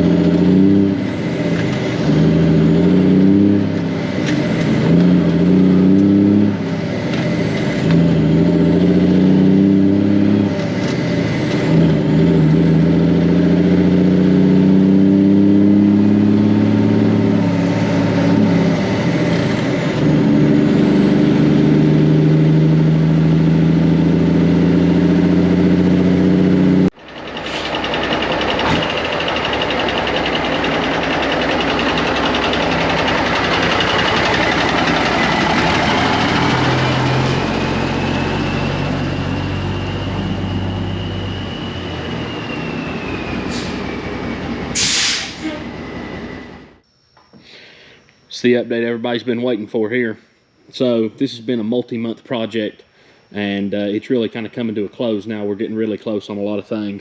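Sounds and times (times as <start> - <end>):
diesel truck engine shifting gears: 0.0 - 46.9.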